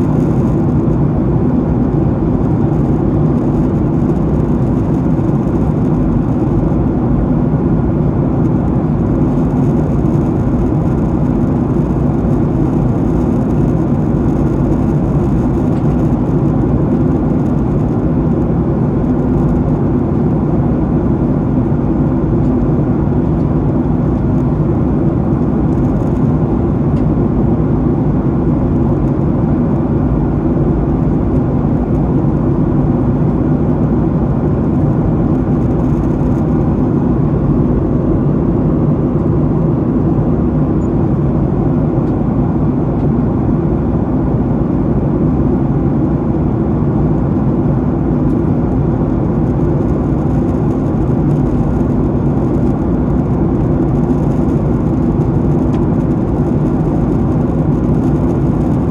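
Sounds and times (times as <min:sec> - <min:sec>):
airplane cabin drone: 0:00.0 - 0:58.9.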